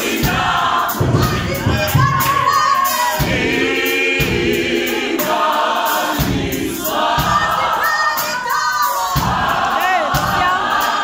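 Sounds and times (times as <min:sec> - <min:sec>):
gospel choir singing: 0:00.0 - 0:11.0
steady beat: 0:00.0 - 0:11.0.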